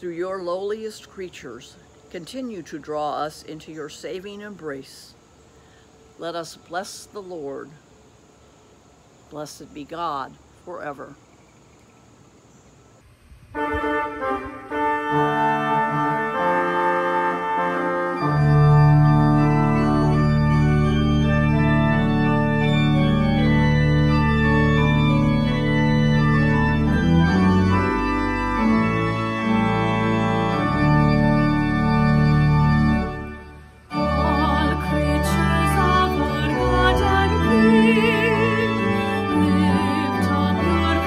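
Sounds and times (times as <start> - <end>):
organ chords: 0.0 - 7.8, 12.8 - 41.0.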